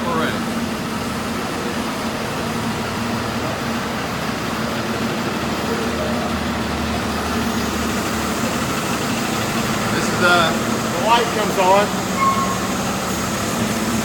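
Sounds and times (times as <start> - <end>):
machinery droning: 0.0 - 14.0.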